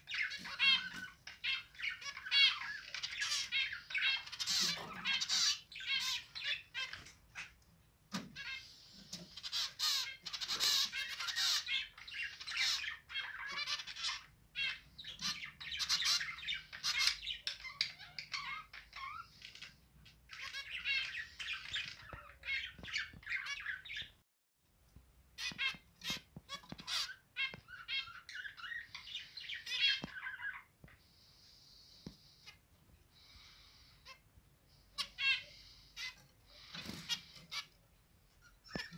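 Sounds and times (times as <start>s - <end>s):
finches chirping and singing: 0.0s - 7.6s, 8.3s - 24.2s, 25.4s - 30.7s, 35.0s - 37.7s, 38.4s - 38.9s.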